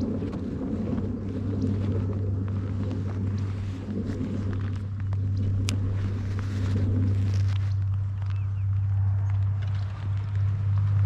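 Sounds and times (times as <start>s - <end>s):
low hum: 0.0s - 11.0s
wind noise on microphone: 0.0s - 11.0s.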